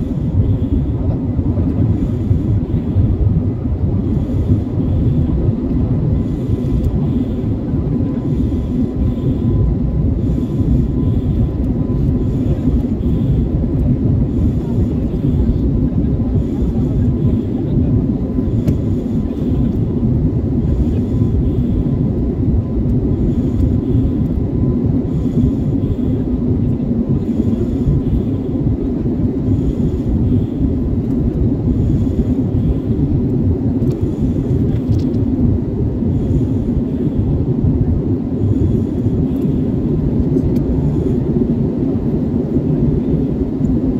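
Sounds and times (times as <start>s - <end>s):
faint steady hum: 0.0s - 43.9s
jet engine and airflow rush: 0.0s - 43.9s.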